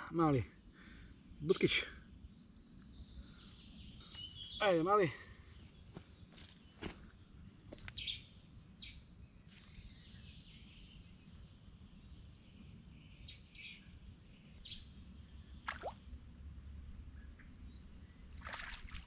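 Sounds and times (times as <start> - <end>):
low outdoor background noise: 0.0 - 19.0.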